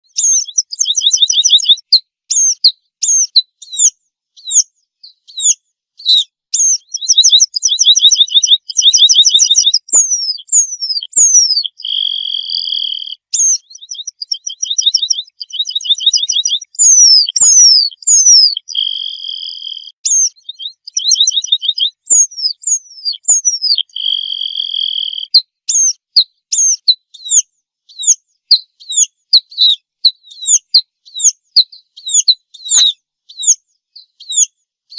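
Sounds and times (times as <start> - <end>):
pipit singing: 0.0 - 4.6, 5.4 - 27.4, 28.0 - 33.6.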